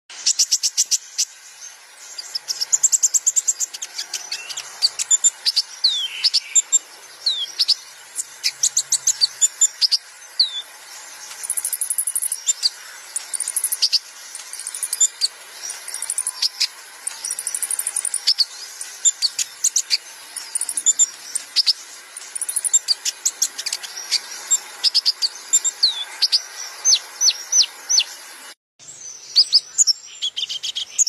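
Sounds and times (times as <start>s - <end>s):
high buzzy bird trill: 0.1s - 31.0s
sunbird chirps and trills: 0.1s - 31.0s.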